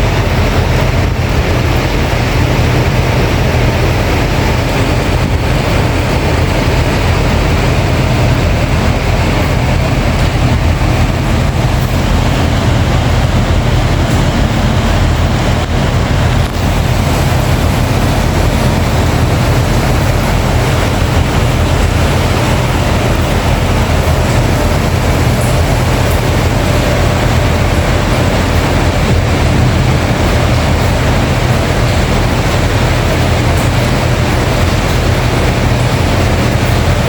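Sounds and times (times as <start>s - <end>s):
heavy rain pouring: 0.0s - 37.0s
low rumble: 0.0s - 37.0s.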